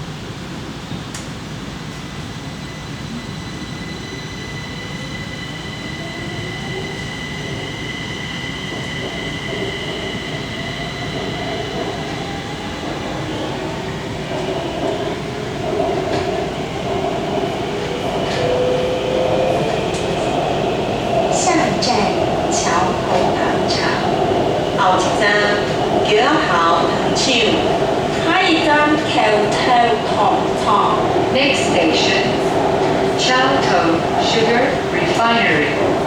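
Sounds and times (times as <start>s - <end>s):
train running noise: 0.0s - 36.0s.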